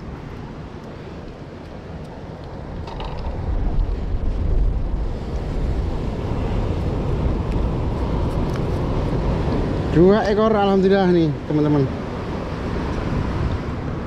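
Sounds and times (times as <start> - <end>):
surf washing on shore: 0.0 - 14.0
wind buffeting microphone: 0.0 - 14.0.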